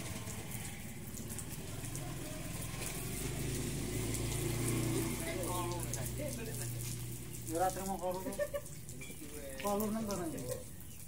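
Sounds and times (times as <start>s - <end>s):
water splattering on ground: 0.0s - 11.0s
water spraying from hose: 0.0s - 11.0s.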